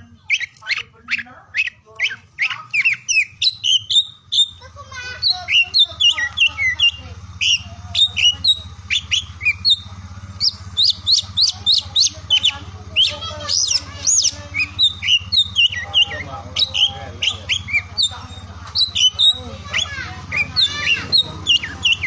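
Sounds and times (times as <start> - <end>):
low steady hum: 0.0 - 22.0
songbird singing: 0.0 - 22.0.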